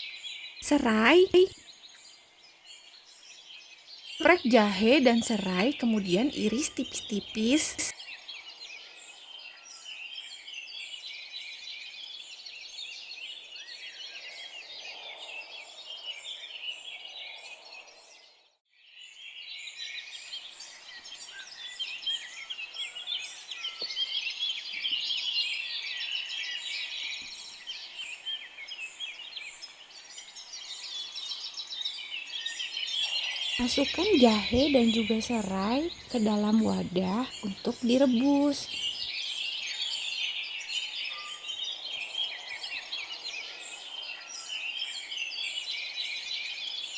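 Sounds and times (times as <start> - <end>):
small birds chirping: 0.0 - 18.1, 19.0 - 46.9.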